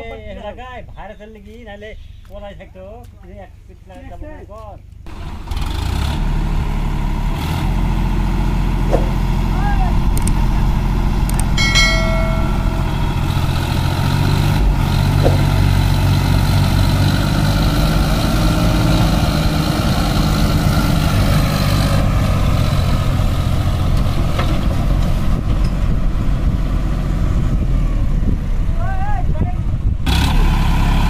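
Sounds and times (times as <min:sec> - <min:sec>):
diesel tractor engine under load: 0:05.0 - 0:28.8, 0:29.6 - 0:31.0.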